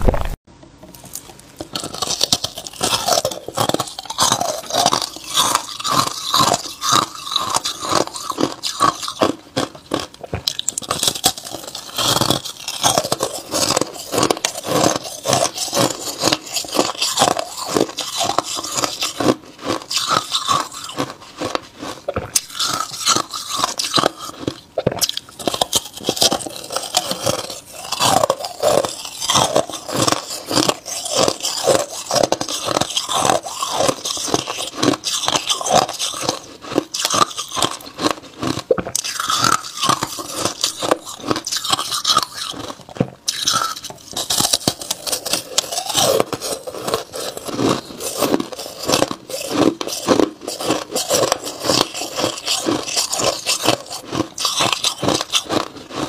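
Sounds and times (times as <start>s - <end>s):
ice crunching in mouth: 1.0s - 56.0s.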